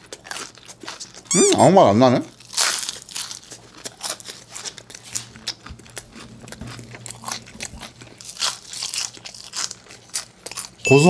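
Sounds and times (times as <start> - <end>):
crisp crunching and chewing: 0.0 - 10.9.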